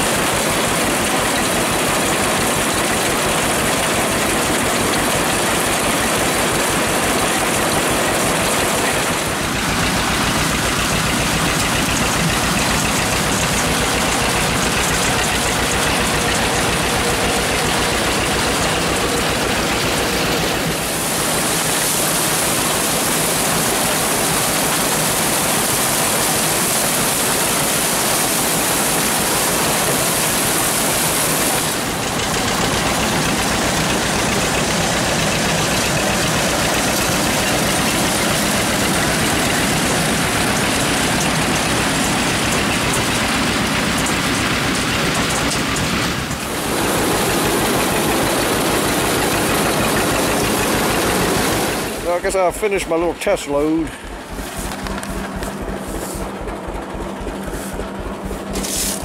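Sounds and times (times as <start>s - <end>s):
corn picker machinery clatter: 0.0s - 59.0s
tractor engine running under load: 0.0s - 59.0s.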